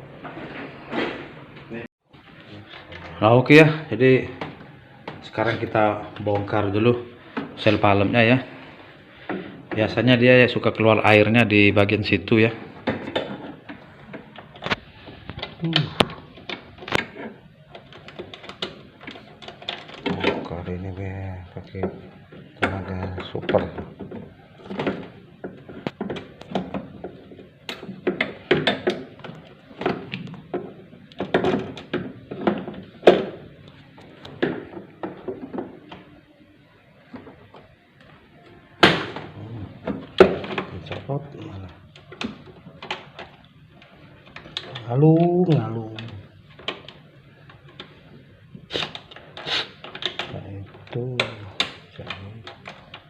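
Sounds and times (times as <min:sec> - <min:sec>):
plastic parts knocking and scraping: 0:00.1 - 0:36.4, 0:37.0 - 0:53.0.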